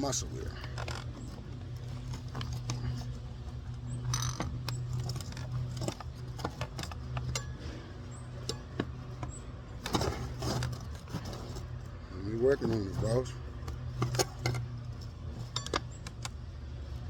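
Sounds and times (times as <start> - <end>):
tool scraping: 0.0 - 16.2
metal tools clinking on wheel rim: 0.0 - 16.5
steady low hum: 0.0 - 17.0.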